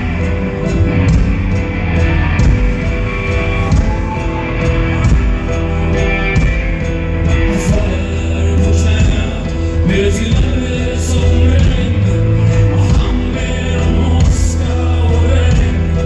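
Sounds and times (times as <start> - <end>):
electric guitar: 0.0 - 16.0
heavy low bass: 0.0 - 16.0
steady drum beat: 0.0 - 16.0.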